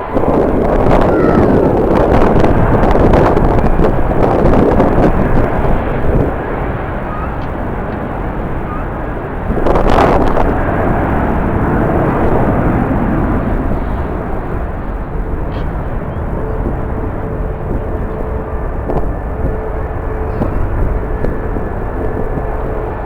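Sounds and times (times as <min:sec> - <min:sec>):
jet airliner noise: 0:00.0 - 0:23.0
wind buffeting microphone: 0:00.0 - 0:23.0.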